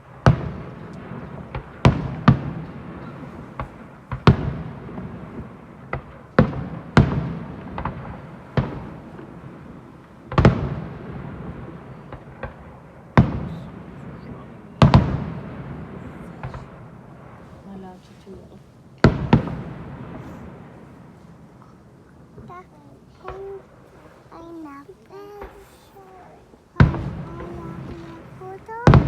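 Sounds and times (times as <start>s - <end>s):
faint firework cracks: 0.0s - 29.0s
firework bangs with echo: 0.0s - 29.0s.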